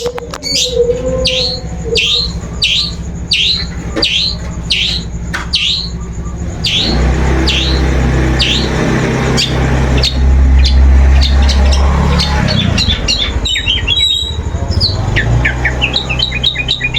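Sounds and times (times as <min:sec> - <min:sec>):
shrike calling: 0:00.0 - 0:16.9.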